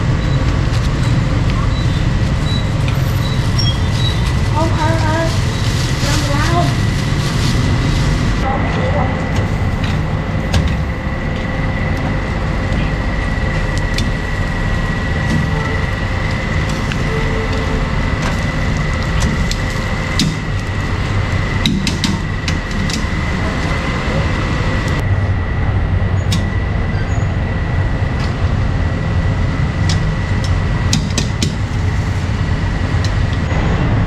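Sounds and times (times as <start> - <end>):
passing traffic rumble: 0.0 - 34.0.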